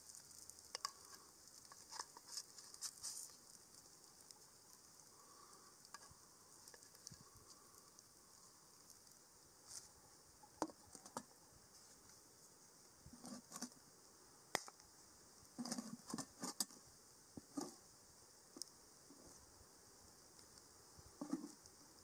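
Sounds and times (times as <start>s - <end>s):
faint high hiss: 0.0s - 22.0s.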